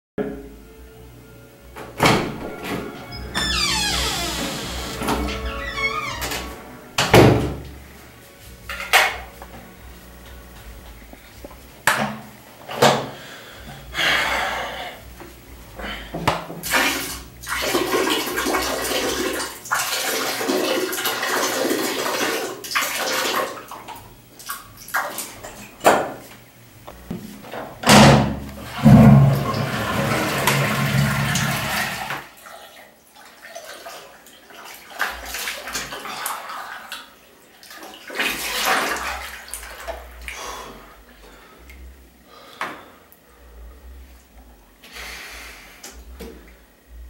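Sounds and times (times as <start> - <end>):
water running: 2.0 - 42.0.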